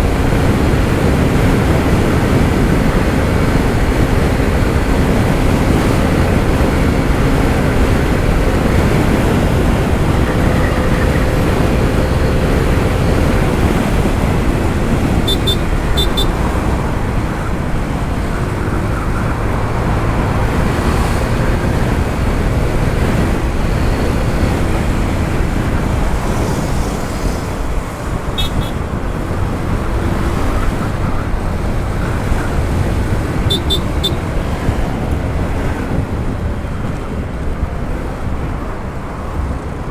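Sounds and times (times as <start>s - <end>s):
road noise: 0.0s - 39.9s
scooter engine: 0.0s - 39.9s
wind rush on microphone: 0.0s - 39.9s.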